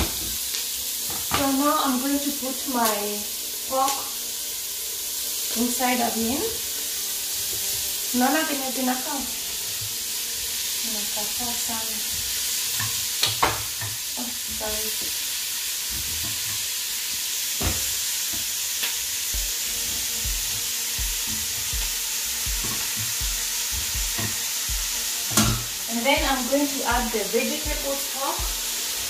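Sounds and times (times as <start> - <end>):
meat and onions sizzling: 0.0 - 29.0.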